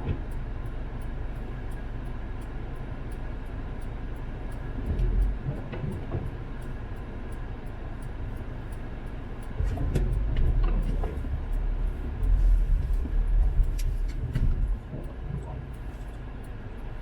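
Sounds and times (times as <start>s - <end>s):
car cabin road and engine rumble: 0.0s - 17.0s.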